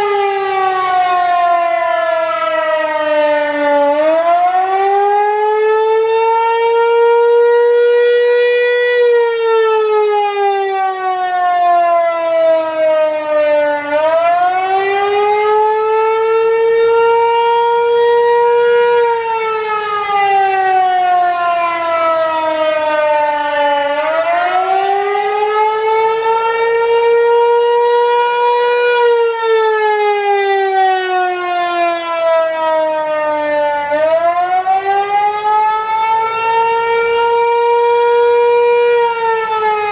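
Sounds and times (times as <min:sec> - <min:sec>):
warning siren rising and falling: 0:00.0 - 0:39.9.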